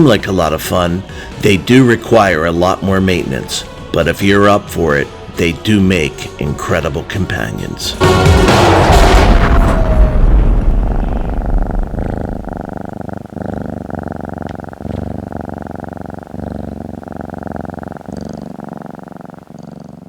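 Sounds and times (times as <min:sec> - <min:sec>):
cat purring: 0:00.0 - 0:08.1, 0:09.6 - 0:20.0.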